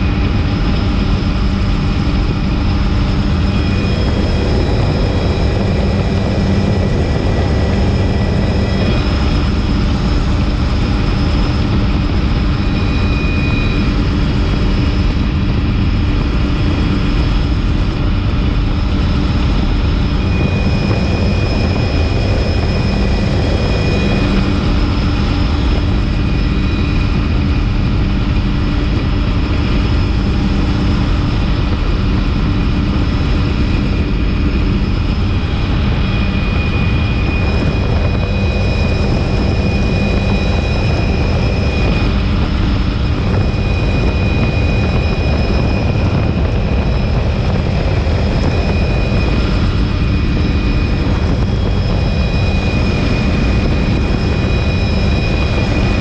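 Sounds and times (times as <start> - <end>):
helicopter rotor and engine rumble: 0.0 - 56.0
high turbine whine: 0.0 - 56.0.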